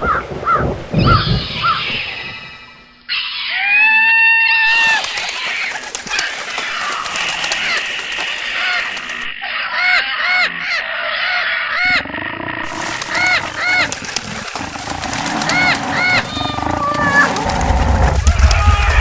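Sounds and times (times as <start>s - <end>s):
bird calls: 0.0s - 19.0s.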